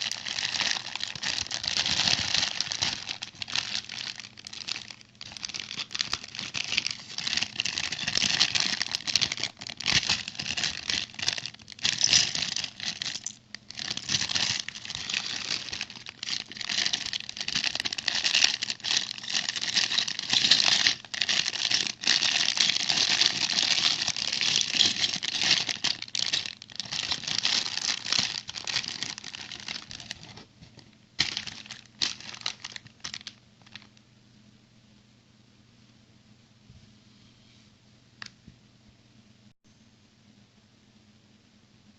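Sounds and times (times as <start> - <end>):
packaging crinkling: 0.0 - 34.0.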